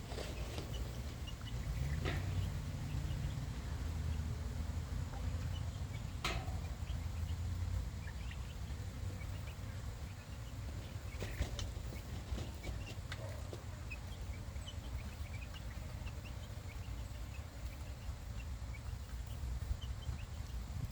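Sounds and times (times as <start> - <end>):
chickens chirping and calling: 0.0 - 20.9
steady low rumble: 0.0 - 20.9.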